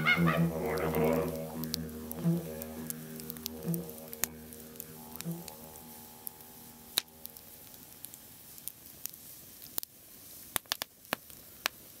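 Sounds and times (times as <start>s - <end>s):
fire hissing: 0.0s - 12.0s
firewood crackling and popping: 0.0s - 12.0s.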